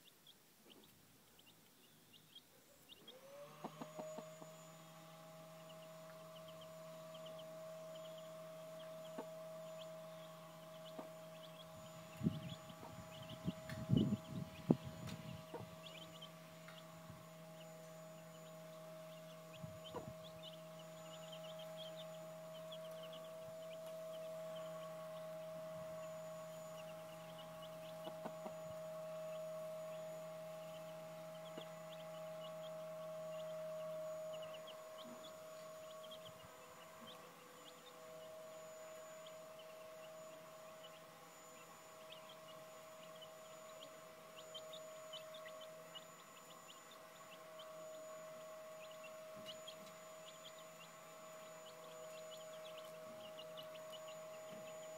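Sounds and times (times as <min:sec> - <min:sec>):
chicks peeping softly: 0:00.0 - 0:54.9
steady hum: 0:00.0 - 0:54.9.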